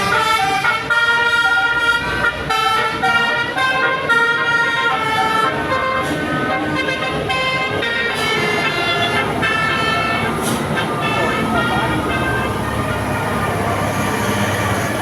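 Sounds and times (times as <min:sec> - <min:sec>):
musical bus horn melody: 0:00.0 - 0:15.0
road and engine noise: 0:00.0 - 0:15.0.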